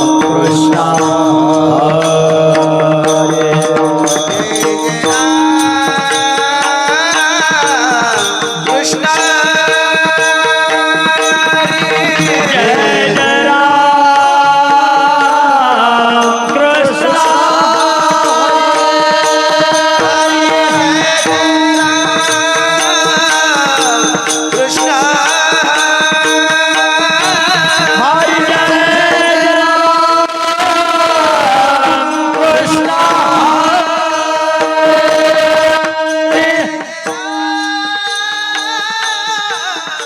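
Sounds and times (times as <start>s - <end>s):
percussion: 0.0s - 40.0s
person singing devotional song: 0.0s - 40.0s.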